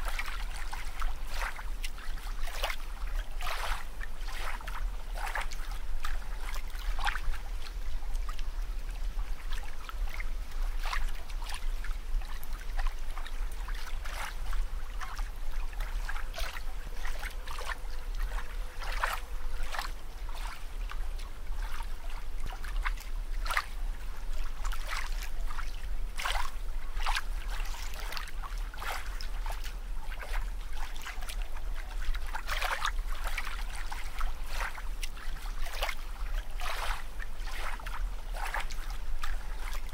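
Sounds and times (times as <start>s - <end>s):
low water rumble: 0.0s - 39.9s
water bubbling and gurgling: 0.0s - 39.9s.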